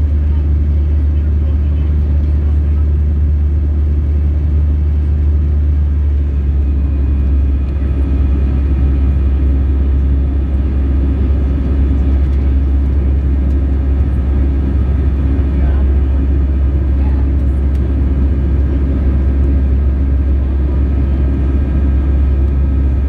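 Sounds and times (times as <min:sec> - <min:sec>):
jet engine low rumble: 0:00.0 - 0:23.0.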